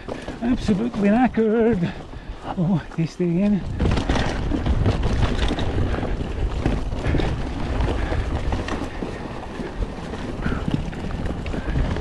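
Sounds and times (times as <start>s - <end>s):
bike clattering over bumps: 0.0s - 12.0s
tyres rumbling on dirt: 0.0s - 12.0s
wind buffeting microphone: 0.0s - 12.0s.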